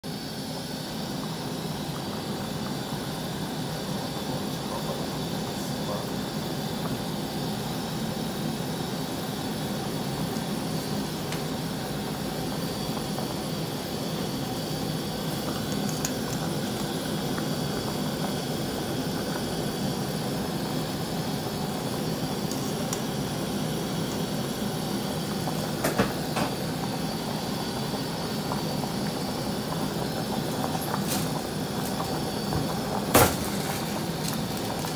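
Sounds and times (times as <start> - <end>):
broth boiling and bubbling: 0.0 - 34.9.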